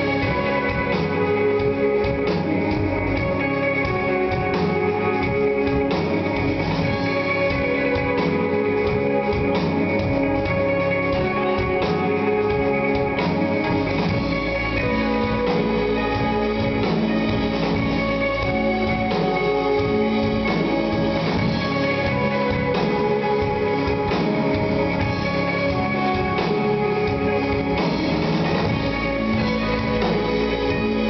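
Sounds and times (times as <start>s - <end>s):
drum kit: 0.0s - 31.0s
electric guitar notes: 0.0s - 31.0s.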